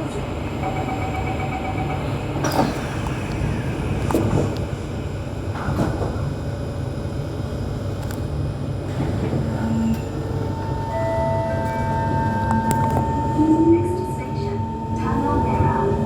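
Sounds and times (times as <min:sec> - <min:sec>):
metro train rumbling on track: 0:00.0 - 0:16.0.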